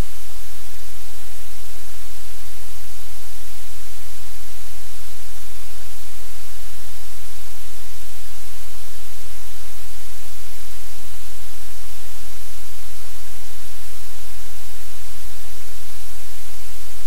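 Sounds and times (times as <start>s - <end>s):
static-like hiss: 0.0s - 17.0s.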